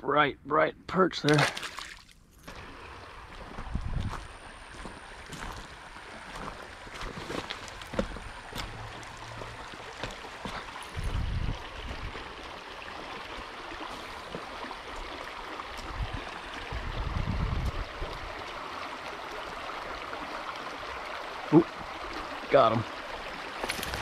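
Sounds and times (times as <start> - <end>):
creek water babbling over rocks: 2.5 - 24.0.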